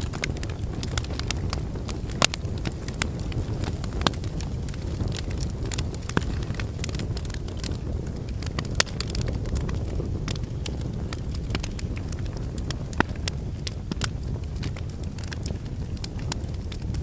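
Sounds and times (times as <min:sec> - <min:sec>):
fire crackles and pops: 0:00.0 - 0:17.0
fire rumbling: 0:00.0 - 0:17.0.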